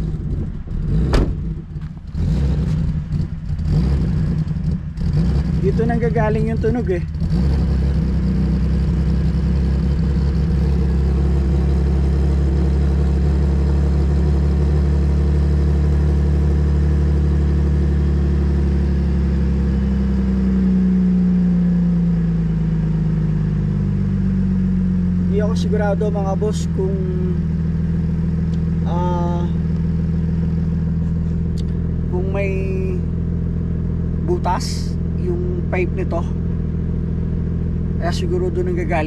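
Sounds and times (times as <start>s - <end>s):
car engine with deep exhaust drone: 0.0s - 39.0s.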